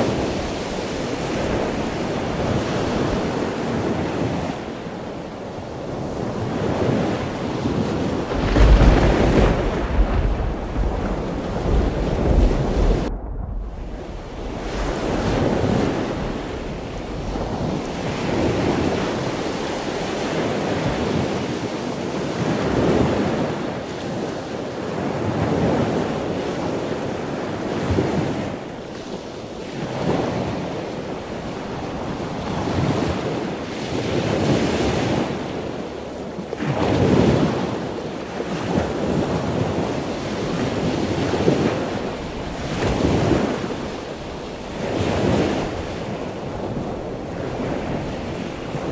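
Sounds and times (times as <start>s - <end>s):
waves washing onto shore: 0.0s - 48.9s.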